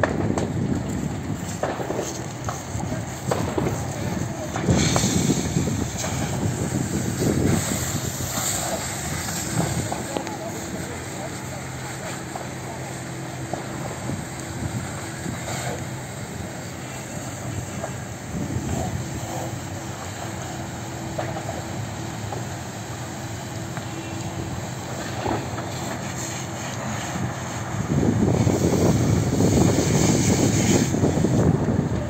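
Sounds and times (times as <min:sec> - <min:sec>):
fire engine motor running: 0:00.0 - 0:32.0.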